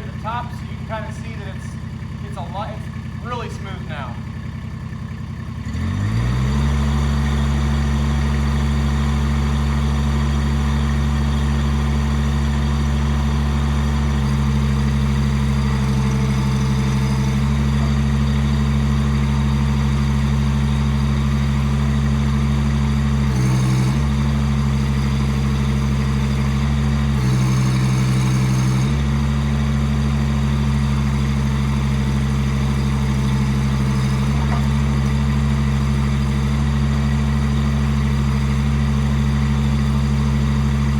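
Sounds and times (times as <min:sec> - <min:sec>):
excavator engine at full throttle: 0:00.0 - 0:40.9.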